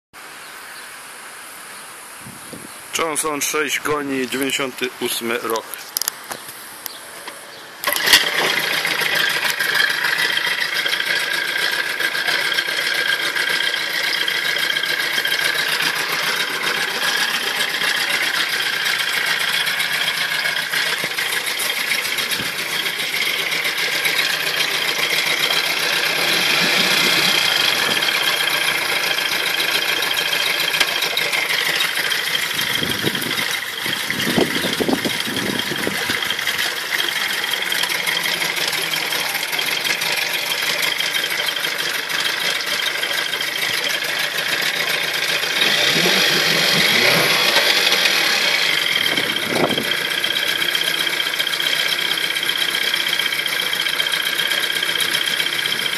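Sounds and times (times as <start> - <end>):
outboard motor starting and idling: 7.0 - 55.9.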